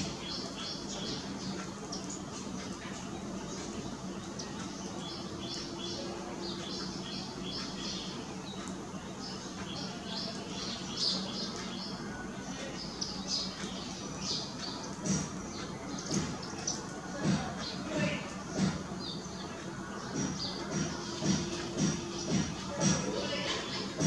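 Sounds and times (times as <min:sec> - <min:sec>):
birds chirping: 0:00.0 - 0:24.0
steady low hum: 0:00.0 - 0:24.0.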